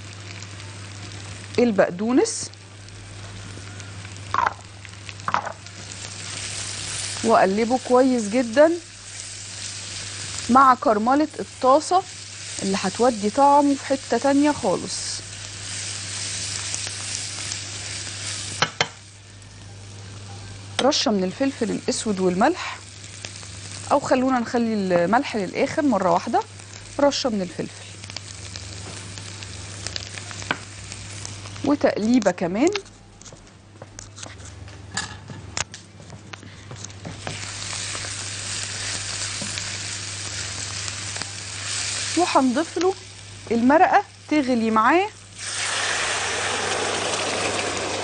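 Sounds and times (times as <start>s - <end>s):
food sizzling in butter: 0.0s - 32.9s, 37.0s - 48.0s.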